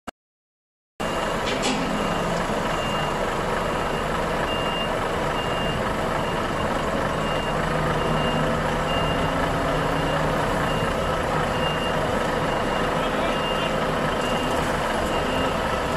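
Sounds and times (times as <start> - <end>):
diesel machinery running: 1.0 - 15.9
reversing alarm beeps: 1.0 - 15.9.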